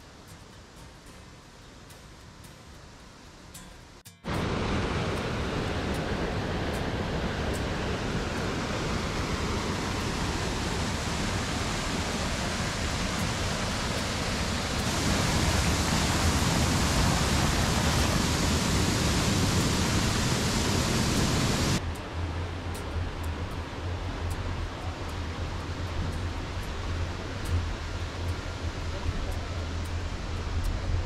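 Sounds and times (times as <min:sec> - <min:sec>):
running water rushing: 0:04.3 - 0:31.0.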